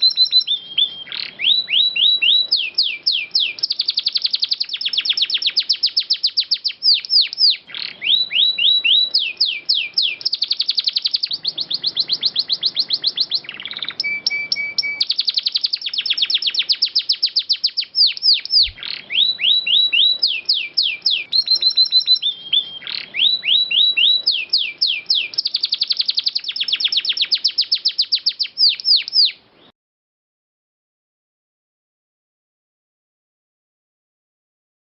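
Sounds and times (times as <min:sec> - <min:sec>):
canary singing trills: 0:00.0 - 0:29.7.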